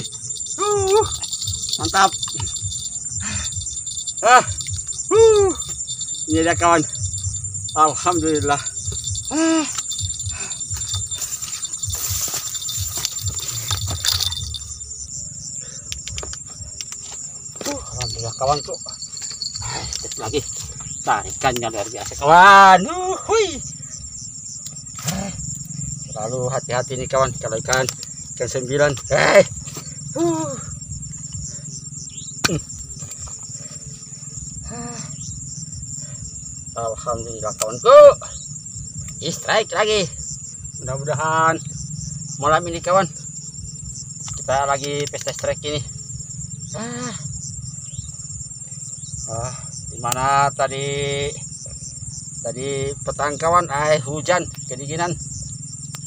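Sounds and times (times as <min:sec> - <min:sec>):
crickets chirring: 0:00.0 - 0:56.0
night insects droning: 0:00.0 - 0:56.0.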